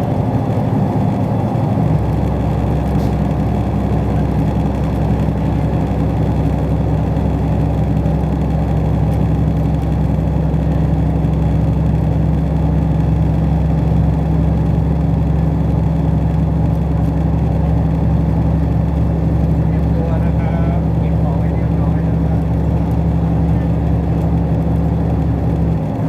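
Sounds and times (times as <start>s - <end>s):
train interior hum and rumble: 0.0s - 26.0s.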